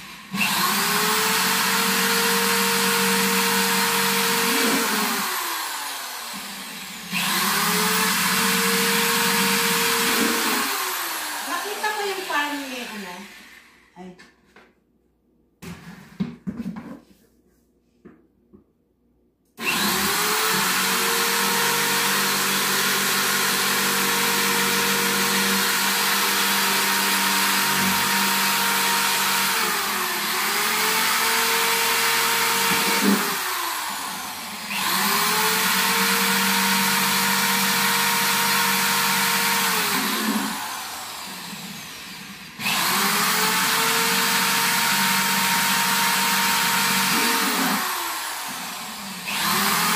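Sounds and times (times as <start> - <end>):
drill boring into plastic: 0.0 - 13.7, 19.6 - 49.9
electric drill motor whine: 0.0 - 13.8, 19.6 - 49.9.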